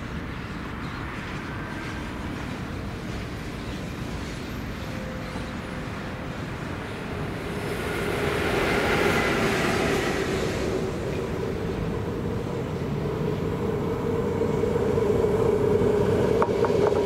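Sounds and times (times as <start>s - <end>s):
electric locomotive approaching: 0.0s - 17.0s
steady whining tones: 2.7s - 17.0s.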